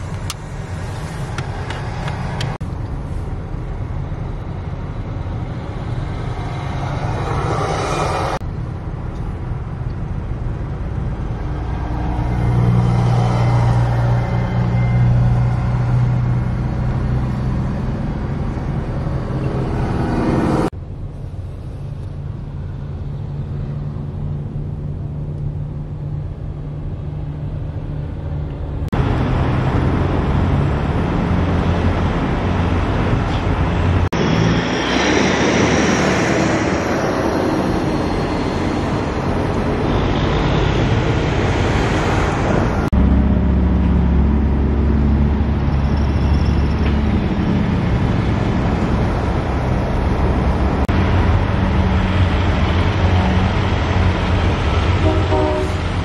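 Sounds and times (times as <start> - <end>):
diesel truck engines droning: 0.0 - 56.0
road noise: 0.0 - 56.0.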